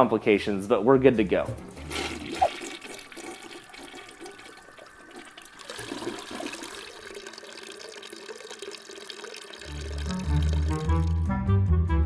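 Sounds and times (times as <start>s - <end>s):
toilet flushing: 1.6s - 11.3s.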